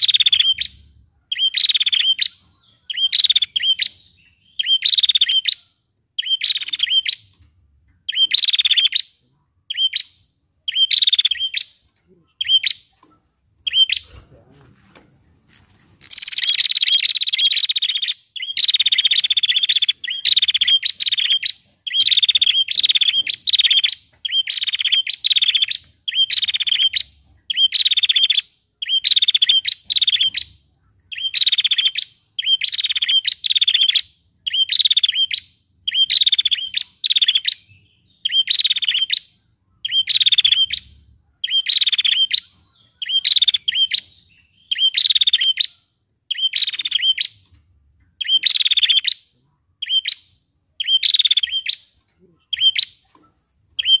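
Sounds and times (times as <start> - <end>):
bird trilling calls: 0.0 - 7.4, 8.0 - 14.5, 16.0 - 47.5, 48.1 - 53.2, 53.8 - 54.0.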